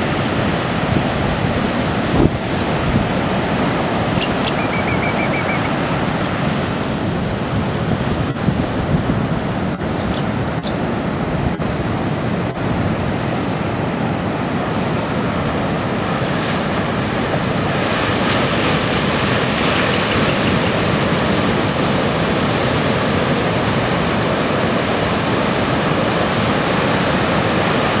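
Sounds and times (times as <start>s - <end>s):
ocean surf breaking on sand: 0.0s - 28.0s.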